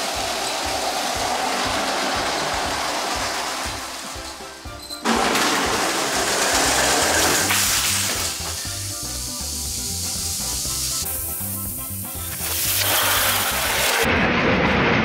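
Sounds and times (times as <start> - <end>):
loud hissing noise: 0.0 - 4.6, 6.0 - 14.2
background music with bass line: 0.0 - 14.0.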